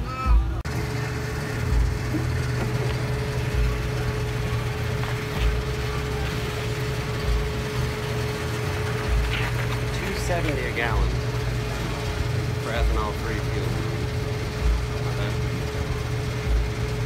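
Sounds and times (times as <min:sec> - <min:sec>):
fuel pump humming: 0:00.0 - 0:17.0.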